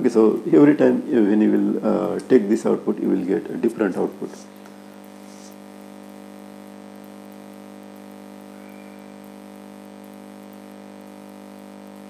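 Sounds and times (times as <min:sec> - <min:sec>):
low electrical hum with hiss: 0:00.0 - 0:12.0.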